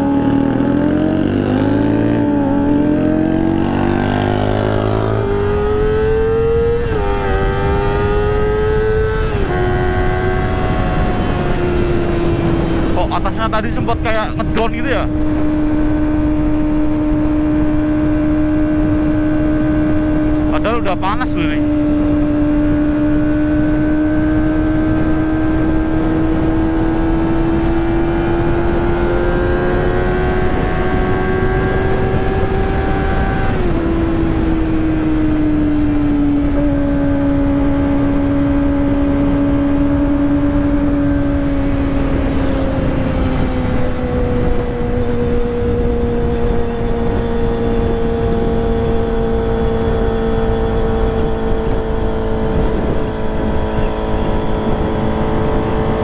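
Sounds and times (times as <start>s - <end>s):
motorcycle engine at high revs: 0.0s - 56.0s
wind and road noise: 0.0s - 56.0s.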